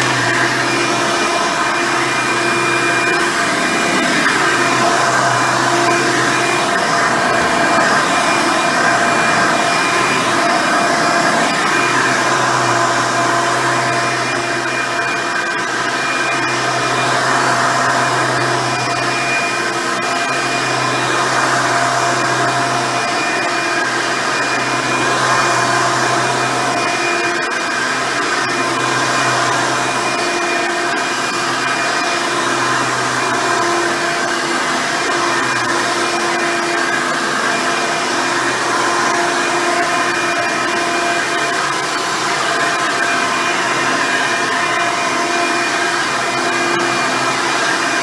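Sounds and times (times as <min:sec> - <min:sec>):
upright vacuum cleaner running: 0:00.0 - 0:48.0.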